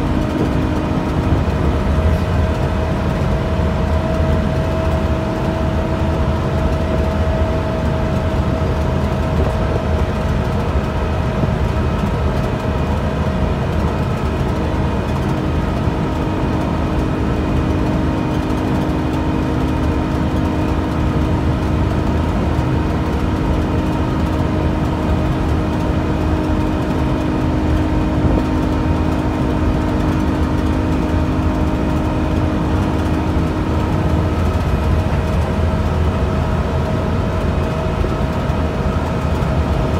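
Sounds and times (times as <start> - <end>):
bus engine rumble: 0.0 - 39.9
drivetrain whine: 0.0 - 39.9
road noise: 0.0 - 39.9.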